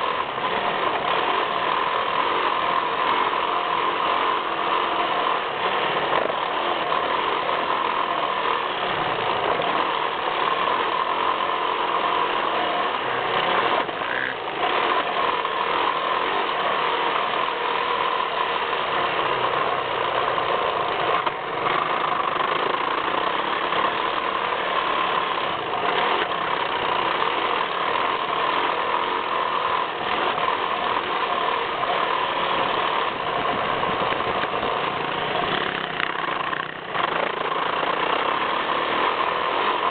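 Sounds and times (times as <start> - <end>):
motocross bike engine: 0.0 - 39.9.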